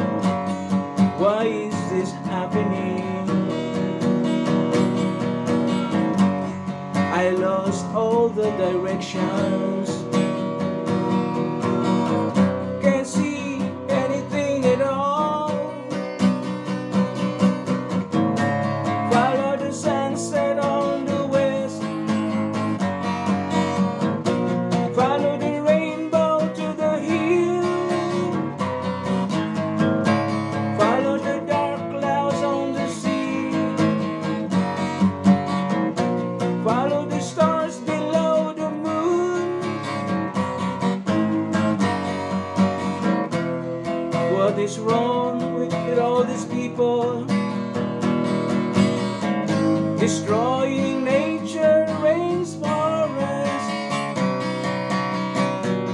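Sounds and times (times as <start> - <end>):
acoustic guitar strumming: 0.0 - 55.9
wordless melody line: 0.0 - 55.9.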